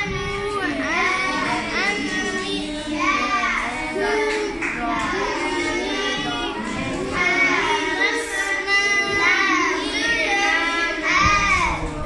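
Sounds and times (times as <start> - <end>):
children chanting melodically: 0.0 - 12.0.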